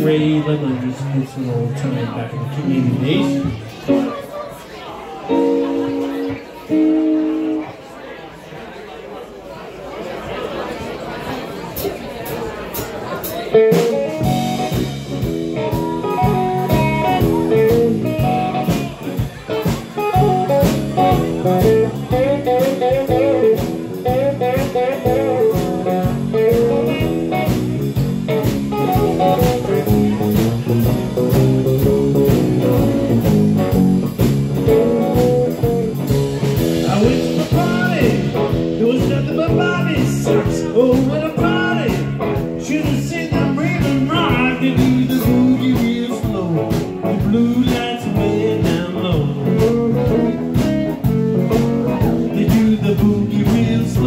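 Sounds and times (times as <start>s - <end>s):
bending lead guitar line: 0.0s - 4.6s, 5.2s - 7.8s, 13.1s - 54.0s
electric blues band playing: 0.0s - 7.8s, 11.8s - 54.0s.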